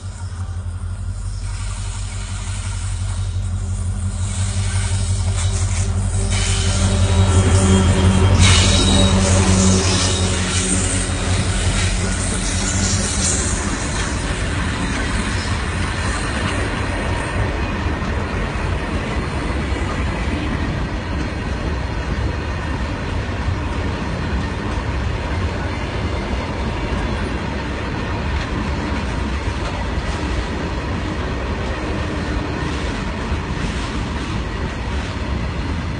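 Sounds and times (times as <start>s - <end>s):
freight train wheels clattering: 0.0s - 35.9s.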